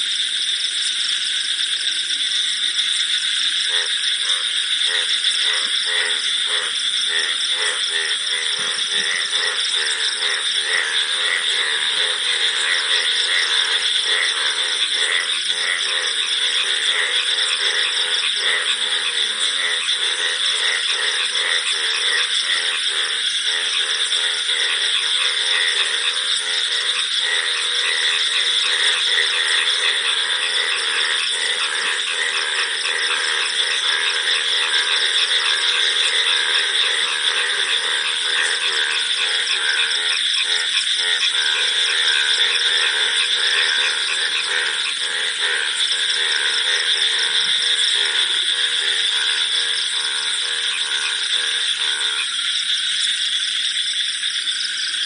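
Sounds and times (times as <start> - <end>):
crickets chirping: 0.0 - 55.0
frogs croaking: 0.0 - 55.0.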